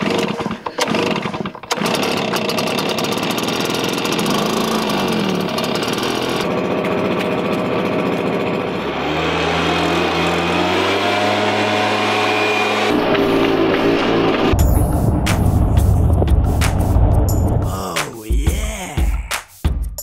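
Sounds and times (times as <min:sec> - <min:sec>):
leaf blower engine running: 0:00.0 - 0:17.1.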